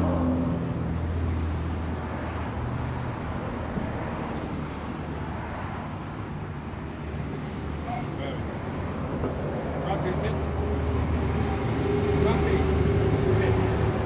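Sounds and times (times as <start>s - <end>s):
steady road noise: 0.0s - 14.0s
vehicle engine hum: 0.0s - 14.0s.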